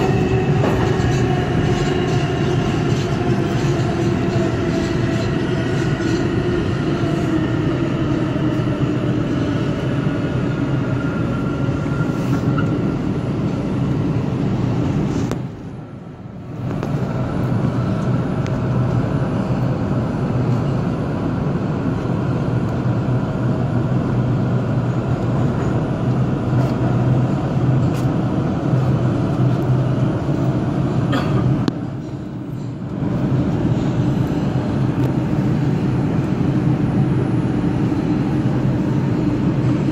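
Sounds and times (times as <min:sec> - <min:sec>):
subway train rumbling in tunnel: 0:00.0 - 0:39.9.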